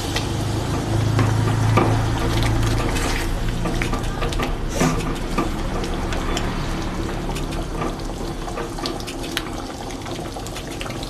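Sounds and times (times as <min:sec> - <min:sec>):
water pouring into a pan: 0:00.0 - 0:11.0.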